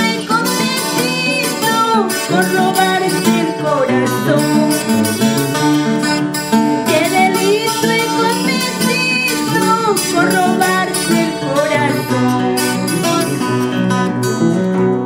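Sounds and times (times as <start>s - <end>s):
person singing: 0.0s - 5.3s, 6.8s - 14.3s
acoustic guitar strumming: 0.0s - 15.0s.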